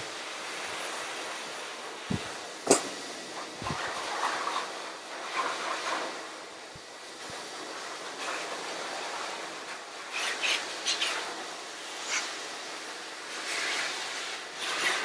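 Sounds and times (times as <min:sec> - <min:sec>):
dryer blowing air: 0:00.0 - 0:15.0.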